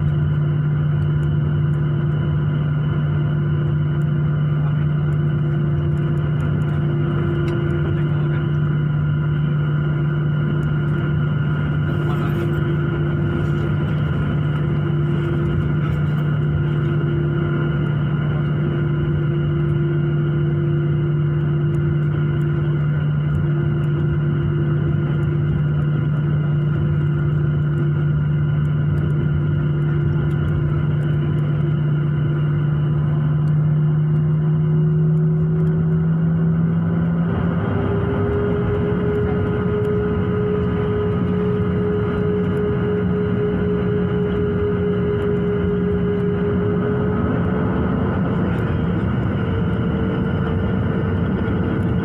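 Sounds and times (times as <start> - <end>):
jet engine drone in cabin: 0.0 - 52.0.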